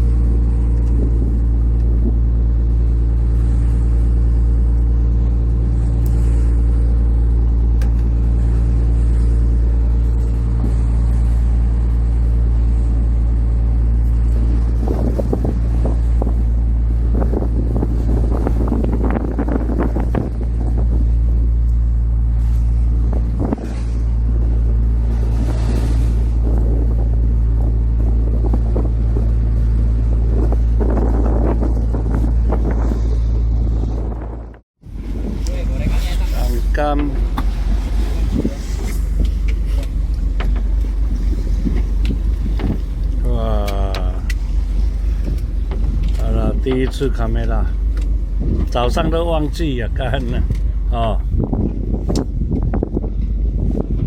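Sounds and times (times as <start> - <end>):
boat engine humming: 0.0 - 54.0
wind buffeting microphone: 0.0 - 54.0.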